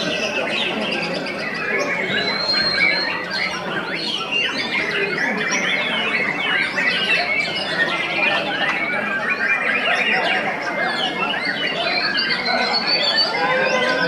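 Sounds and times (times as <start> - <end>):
caged songbirds singing: 0.0 - 14.0.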